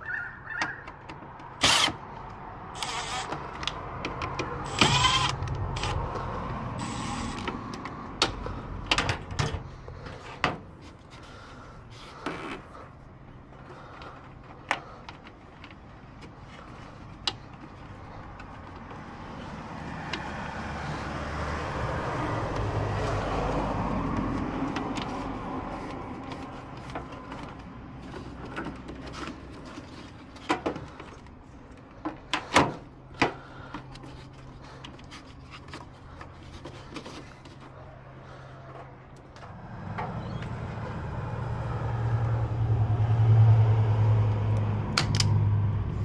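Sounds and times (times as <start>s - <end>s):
road vehicle passing: 0.0s - 14.2s, 15.8s - 46.0s
cables and insulation being handled: 0.8s - 20.4s, 22.4s - 40.6s.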